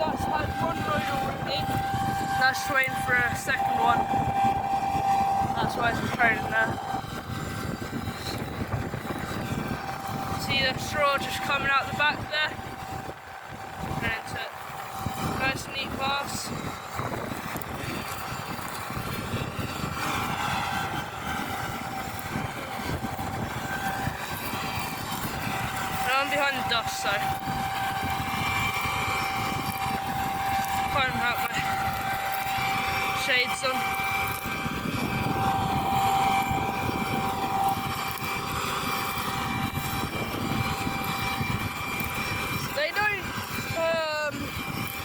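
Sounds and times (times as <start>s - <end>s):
machinery engine drone: 0.0s - 45.0s
steady high whine: 0.0s - 45.0s.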